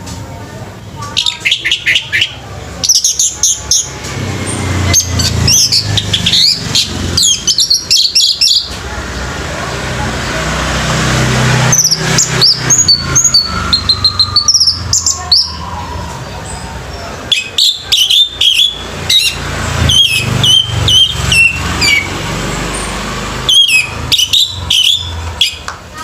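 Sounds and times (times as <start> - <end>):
thrush singing: 0.2 - 26.0.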